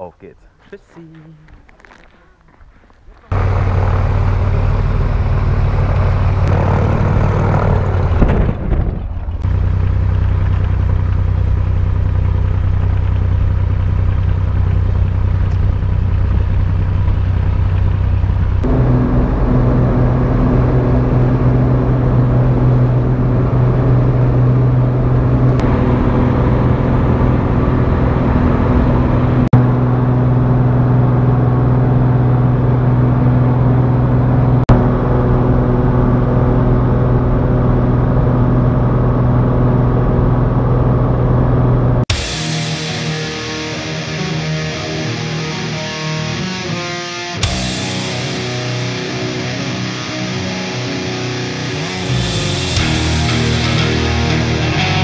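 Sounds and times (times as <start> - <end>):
propeller plane engine droning: 3.1 - 55.0.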